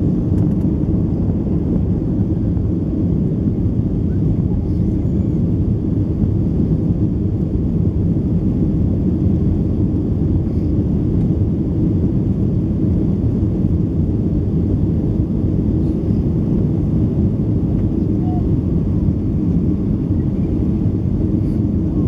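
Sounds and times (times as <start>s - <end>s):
aircraft cabin engine rumble: 0.0s - 22.0s
airflow over fuselage: 0.0s - 22.0s.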